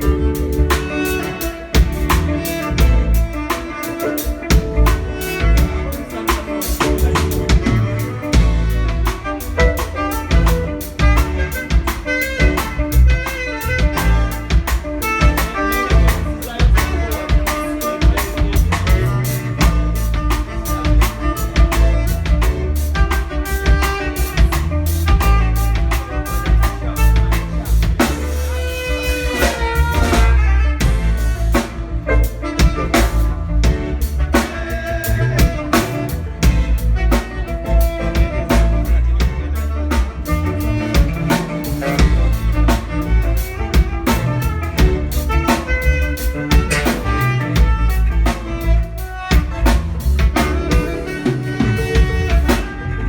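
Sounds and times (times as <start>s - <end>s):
drum kit beat: 0.0s - 53.0s
live band playing instrumental: 0.0s - 53.0s.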